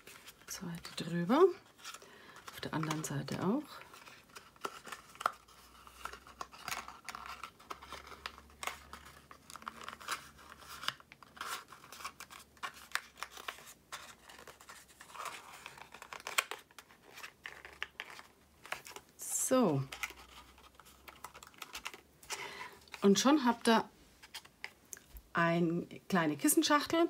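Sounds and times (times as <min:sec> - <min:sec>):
cardstock rustling and crinkling: 0:00.0 - 0:24.9.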